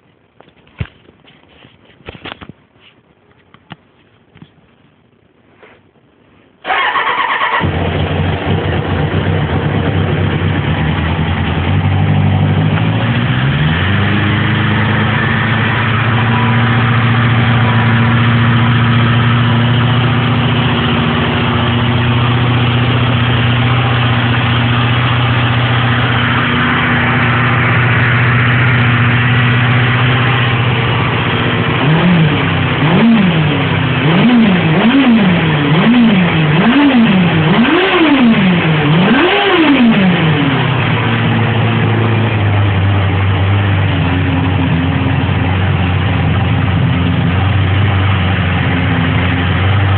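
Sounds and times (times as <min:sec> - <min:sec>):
motorcycle engine revving: 0:06.6 - 0:49.9
motorcycle engine idling: 0:06.7 - 0:49.9.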